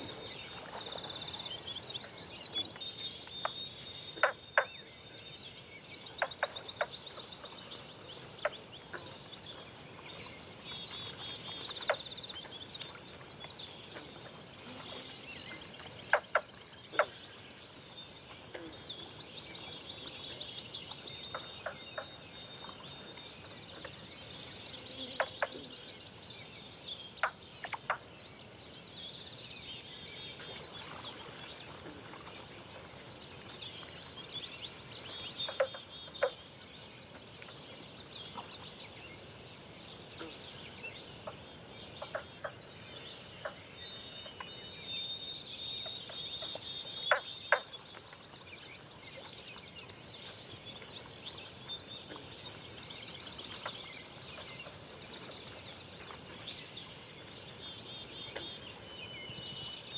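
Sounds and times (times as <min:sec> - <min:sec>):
songbirds trilling: 0:00.0 - 0:59.9.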